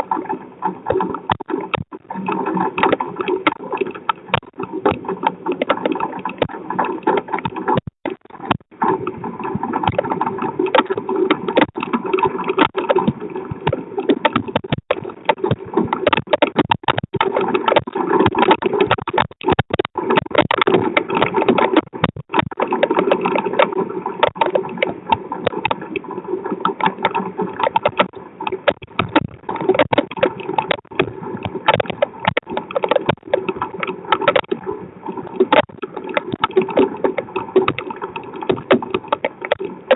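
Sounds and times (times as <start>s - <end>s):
rain and wind crackling rush: 0.0s - 39.9s.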